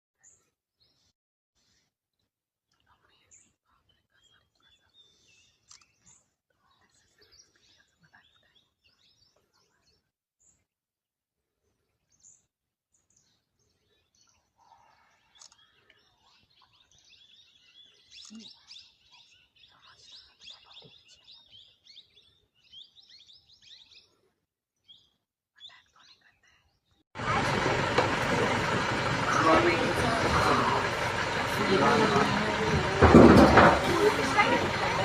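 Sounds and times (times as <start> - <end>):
small birds chirping: 0.2 - 10.7, 11.7 - 35.0.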